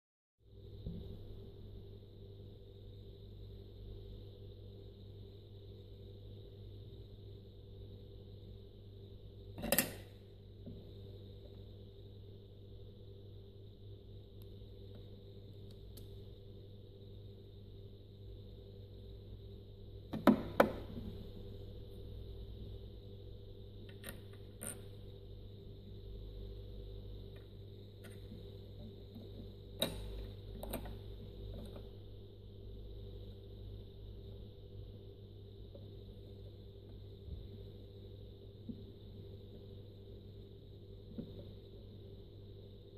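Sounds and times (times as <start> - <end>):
faint steady hum: 0.4 - 42.9.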